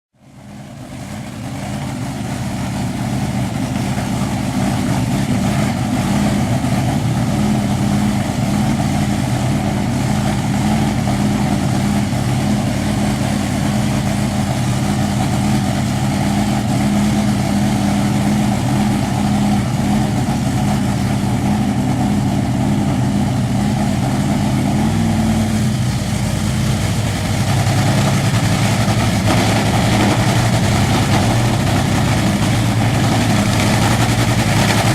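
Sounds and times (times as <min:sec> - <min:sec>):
drag racing engine idling: 0:00.1 - 0:34.9.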